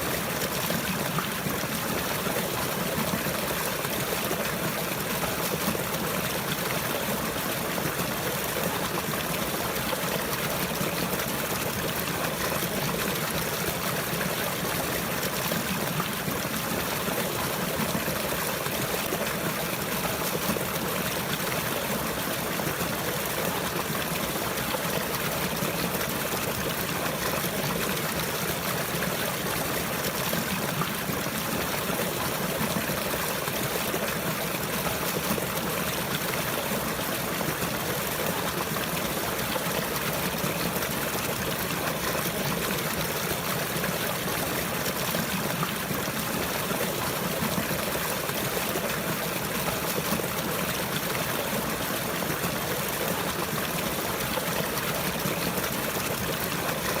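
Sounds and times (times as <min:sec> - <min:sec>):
water flowing and trickling: 0:00.0 - 0:57.0.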